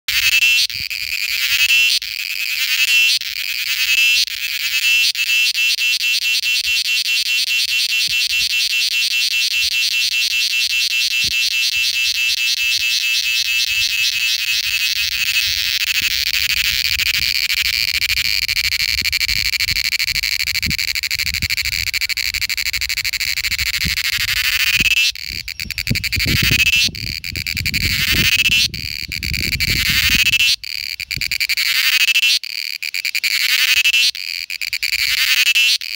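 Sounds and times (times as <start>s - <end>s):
cicada buzzing call: 0.1s - 35.9s.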